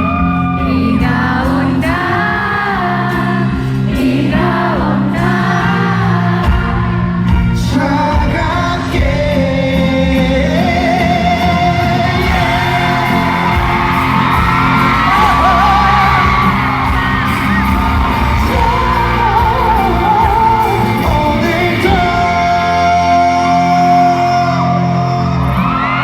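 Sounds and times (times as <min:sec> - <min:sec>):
audience yelling and screaming: 0:00.0 - 0:26.0
band accompaniment: 0:00.0 - 0:26.0
man singing pop ballad: 0:00.0 - 0:26.0.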